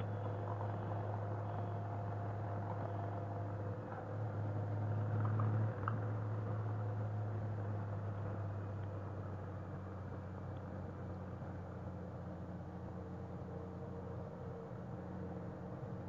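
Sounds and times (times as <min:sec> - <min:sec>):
motorcycle engine drone: 0:00.0 - 0:16.0
wind and road noise: 0:00.0 - 0:16.0.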